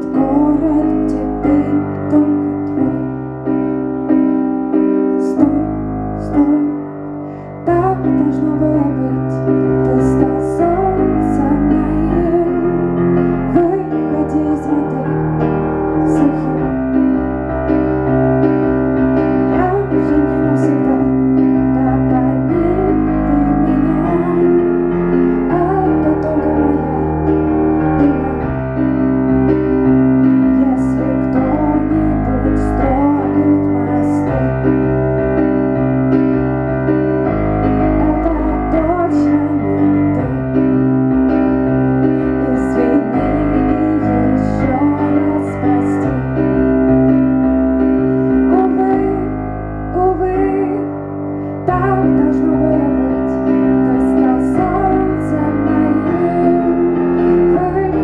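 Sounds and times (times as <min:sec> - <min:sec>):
woman singing: 0:00.0 - 0:03.3, 0:05.2 - 0:17.2, 0:19.4 - 0:29.0, 0:30.2 - 0:35.0, 0:37.7 - 0:40.8, 0:42.0 - 0:46.9, 0:48.3 - 0:58.0
piano playing sustained chords: 0:00.0 - 0:58.0.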